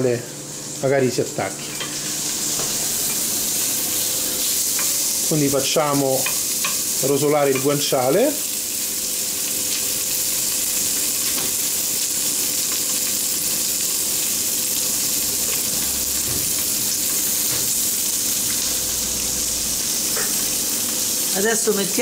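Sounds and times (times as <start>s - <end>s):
meat sizzling in a pan: 0.5s - 22.0s.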